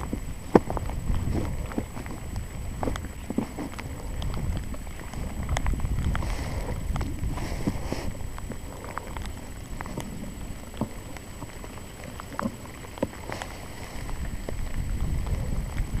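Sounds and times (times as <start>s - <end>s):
rain and wind rumble: 0.0s - 16.0s
raindrops tapping on a helmet: 0.0s - 16.0s.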